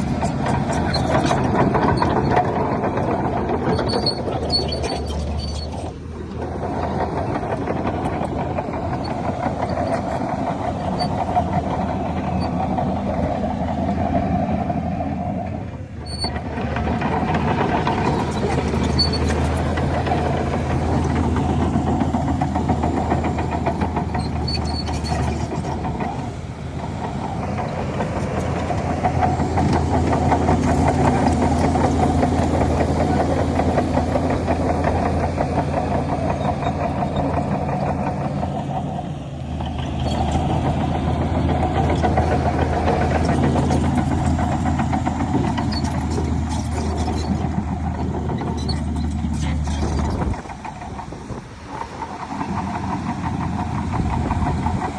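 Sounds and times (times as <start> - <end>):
heavy diesel engine under load: 0.0 - 54.9.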